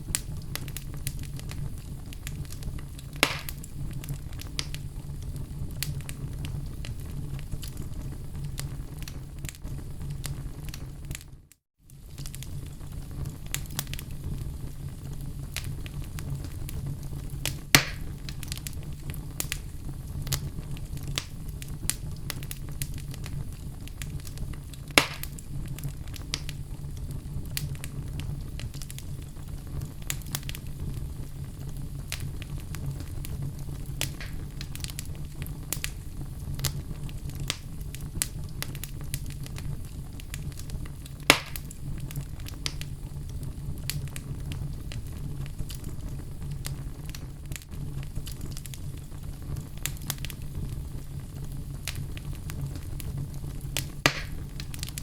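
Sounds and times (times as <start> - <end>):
sharp fire pops: 0.0 - 55.0
wood fire crackling: 0.0 - 55.0.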